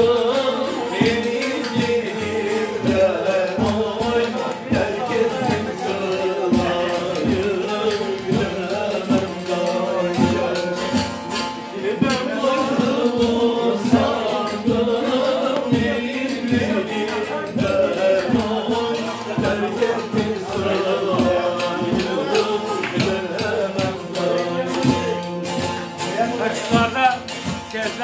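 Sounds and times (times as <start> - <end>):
lutes strummed with steady beat: 0.0 - 28.0
men singing slow song: 0.0 - 28.0.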